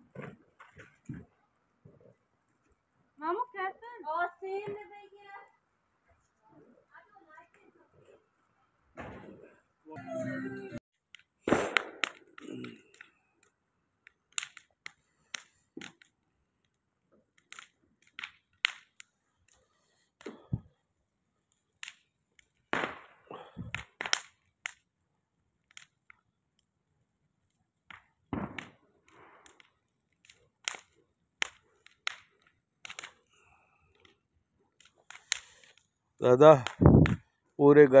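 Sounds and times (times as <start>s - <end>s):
bonfire crackling and popping: 0.0s - 9.9s, 10.9s - 38.0s.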